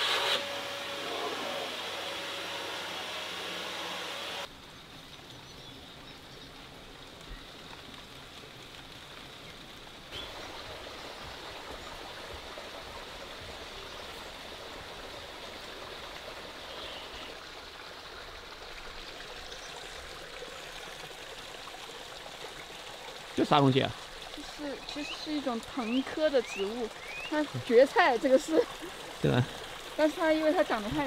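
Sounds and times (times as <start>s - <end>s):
small stream running: 0.0s - 31.0s
steady rain falling: 4.4s - 31.0s.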